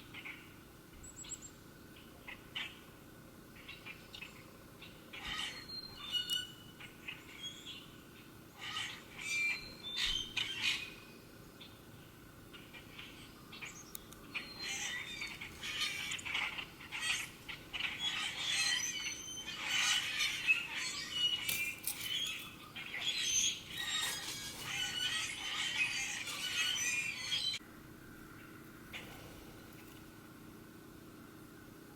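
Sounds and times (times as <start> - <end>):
small songbirds chirping: 0.0 - 27.6.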